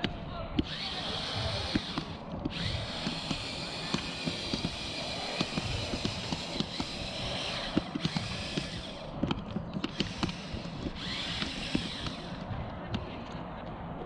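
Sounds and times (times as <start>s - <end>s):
small electric motors whining: 0.6s - 13.2s.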